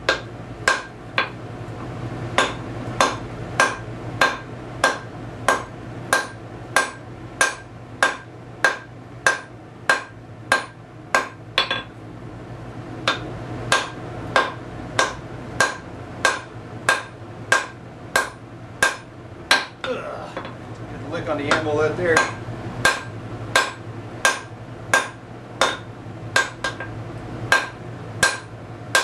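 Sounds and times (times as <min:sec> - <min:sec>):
sledgehammer ringing on hot steel: 0:02.4 - 0:11.9, 0:13.0 - 0:20.6, 0:21.3 - 0:26.9, 0:27.5 - 0:29.0.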